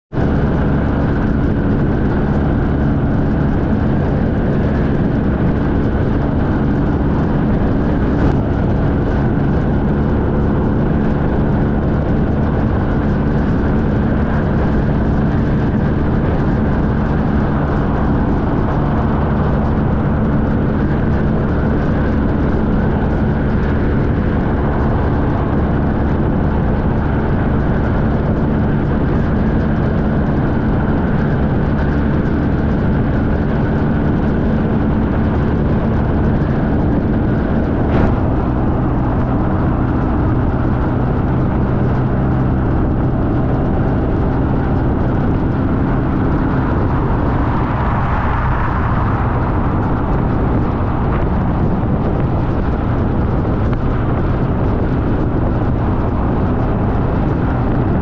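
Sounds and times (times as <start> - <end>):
wind and road noise: 0.0 - 58.0
motorcycle engine running: 0.1 - 58.0.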